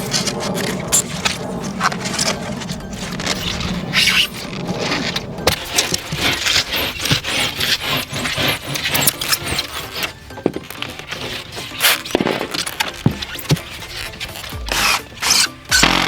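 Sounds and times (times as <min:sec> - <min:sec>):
background music: 0:00.0 - 0:16.0
foam boards scraping and squeaking: 0:00.0 - 0:16.0.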